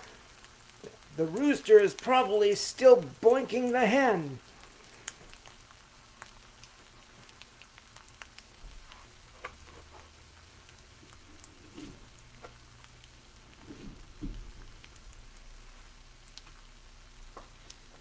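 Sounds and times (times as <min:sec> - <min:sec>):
crackles and pops: 0:00.0 - 0:18.0
eggs sizzling in butter: 0:00.0 - 0:18.0.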